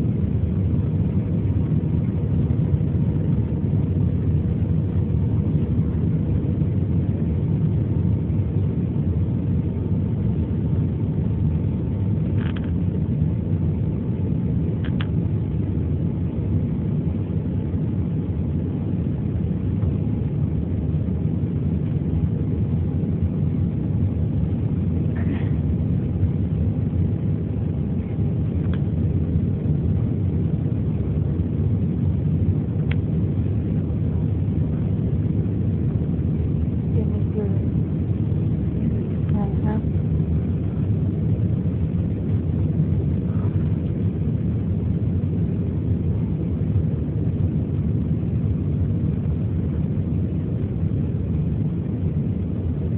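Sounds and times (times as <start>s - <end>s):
aircraft engine and airflow rumble: 0.0s - 52.9s
faint steady whine: 0.0s - 52.9s.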